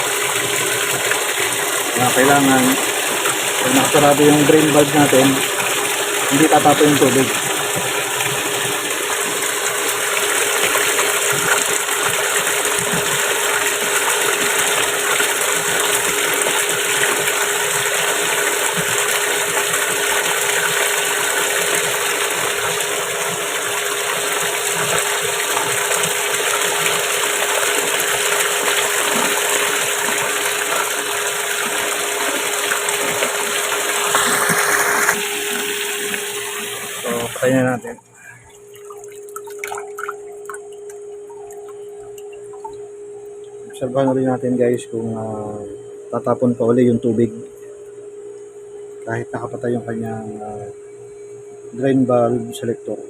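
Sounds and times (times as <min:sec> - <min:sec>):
water gushing into washing machine: 0:00.0 - 0:44.4.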